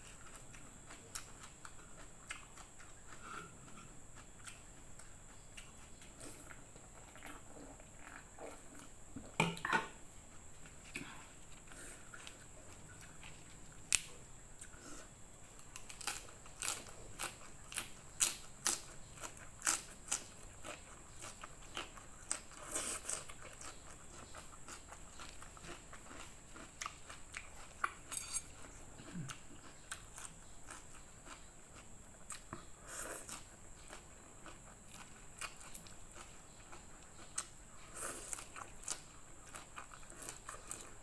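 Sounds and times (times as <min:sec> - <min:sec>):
crunchy chewing: 0:00.0 - 0:09.2, 0:10.2 - 0:41.0.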